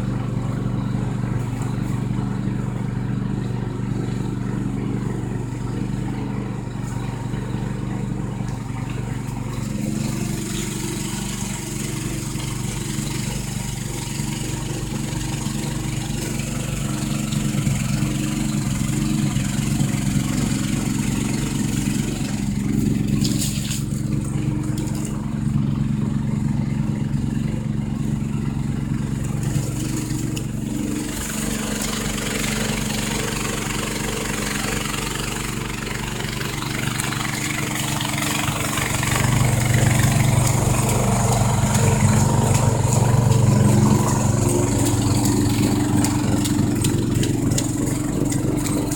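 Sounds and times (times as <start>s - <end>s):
snowblower engine running: 0.0s - 48.9s.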